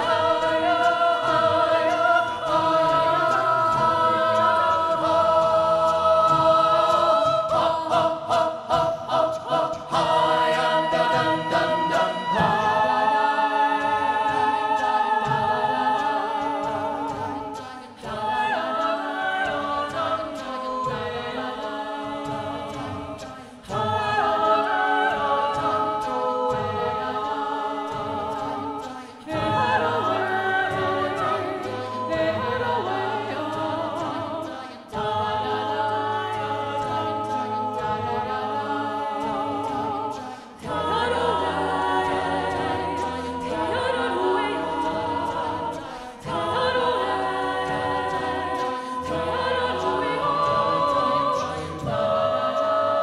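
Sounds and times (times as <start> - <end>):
a cappella choir singing: 0.0 - 53.0.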